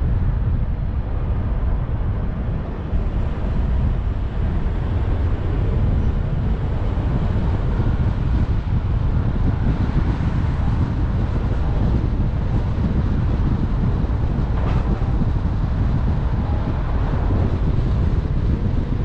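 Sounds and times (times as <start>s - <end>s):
car road and tyre noise: 0.0s - 19.0s
wind rumble on microphone: 0.0s - 19.0s.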